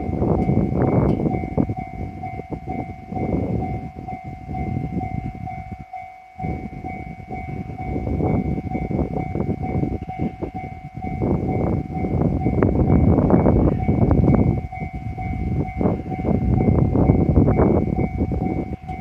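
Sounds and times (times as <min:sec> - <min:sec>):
electric train passing: 0:00.0 - 0:19.0
level-crossing warning bell ringing: 0:00.0 - 0:19.0.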